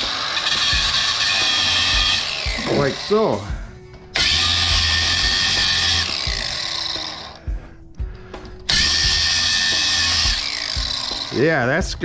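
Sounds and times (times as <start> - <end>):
angle grinder grinding metal: 0.0 - 7.5, 8.6 - 11.9.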